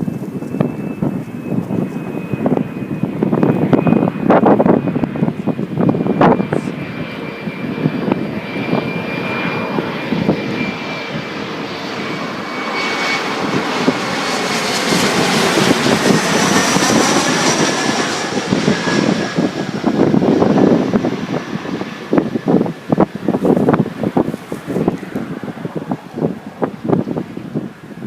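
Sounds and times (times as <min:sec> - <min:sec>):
jet airliner passing: 0:00.0 - 0:28.0
jet engine whine dropping in pitch: 0:00.0 - 0:28.0.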